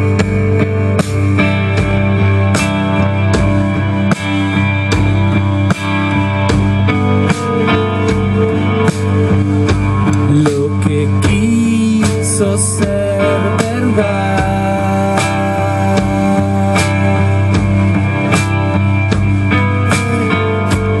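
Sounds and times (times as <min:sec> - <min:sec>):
bass guitar: 0:00.0 - 0:21.0
drum kit beat: 0:00.0 - 0:21.0
electric guitars: 0:00.0 - 0:21.0.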